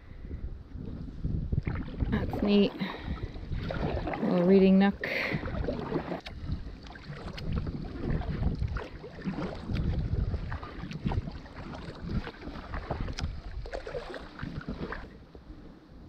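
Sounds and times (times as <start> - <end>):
wind rumbling on microphone: 0.0 - 16.0
kayak paddle splashing: 1.5 - 15.4.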